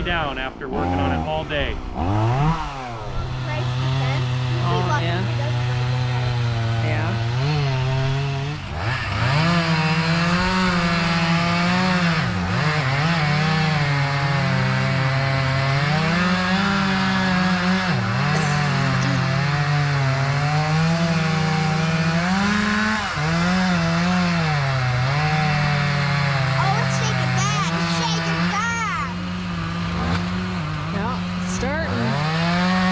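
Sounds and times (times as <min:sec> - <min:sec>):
chainsaw cutting wood: 0:01.8 - 0:32.9.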